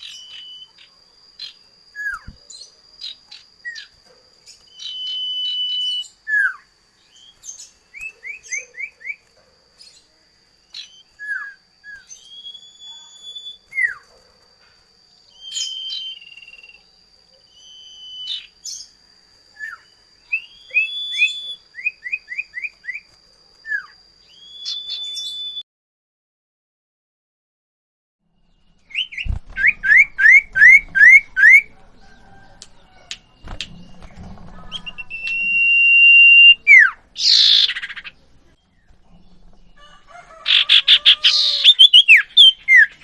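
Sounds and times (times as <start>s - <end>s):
bird singing whistled song: 0.0s - 9.3s, 9.9s - 14.1s, 15.3s - 25.6s, 28.4s - 31.7s, 33.2s - 39.8s, 40.5s - 43.0s.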